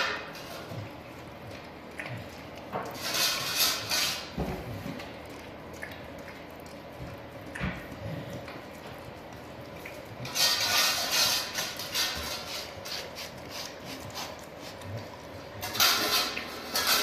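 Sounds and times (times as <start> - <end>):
dog licking food bowl: 0.0 - 16.8.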